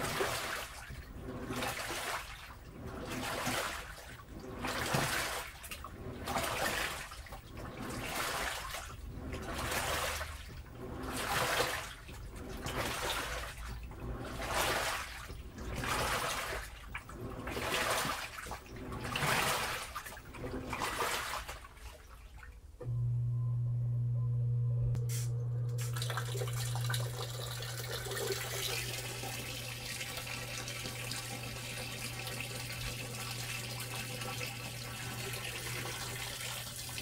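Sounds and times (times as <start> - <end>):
washing machine swishing water: 0.0 - 23.0, 25.1 - 37.0.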